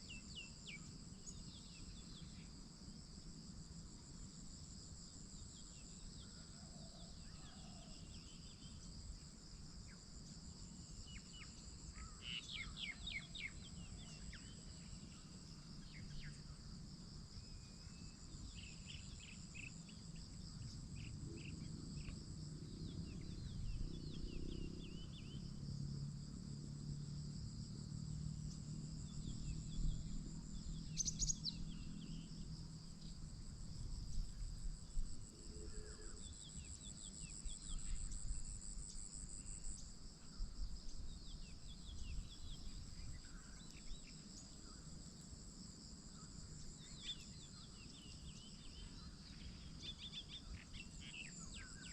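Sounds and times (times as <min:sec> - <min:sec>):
insects trilling: 0:04.3 - 0:51.9.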